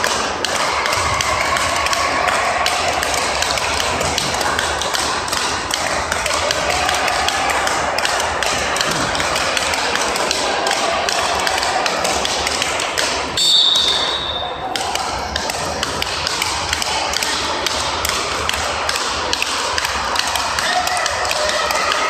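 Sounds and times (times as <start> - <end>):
rackets tapping ball: 0.0 - 22.0
sports hall hum: 0.0 - 22.0.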